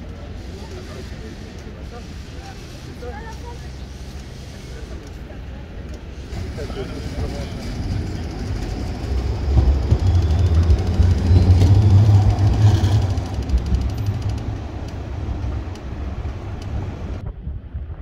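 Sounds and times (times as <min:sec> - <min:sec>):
road traffic: 0:00.0 - 0:17.2
tram rumbling past: 0:00.0 - 0:17.7.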